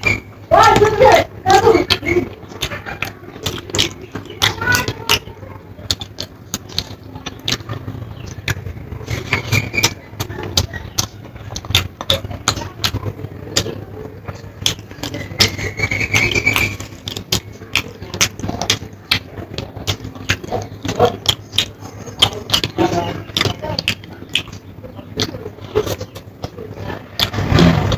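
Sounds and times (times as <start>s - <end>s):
steady low hum: 0.0s - 27.9s
wet chewing and lip smacks: 1.8s - 27.9s.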